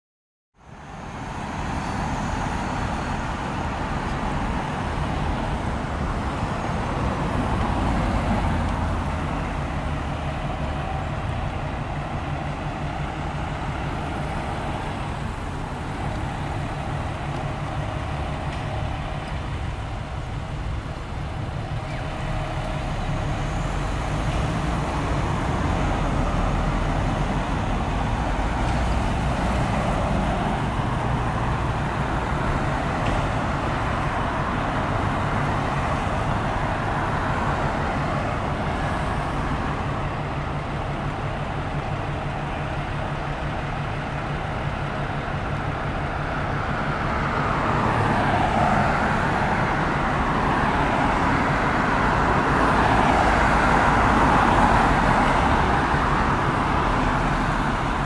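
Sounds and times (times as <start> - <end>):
cars passing: 0.6 - 58.0
diesel engine idling: 0.6 - 58.0.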